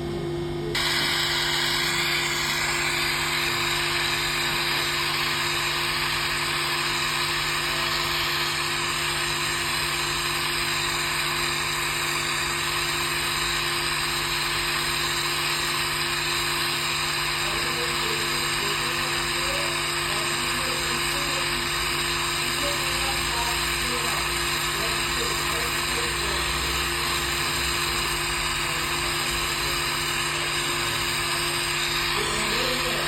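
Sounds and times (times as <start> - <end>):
steady hum: 0.0 - 33.0
torch flame hissing: 0.7 - 33.0.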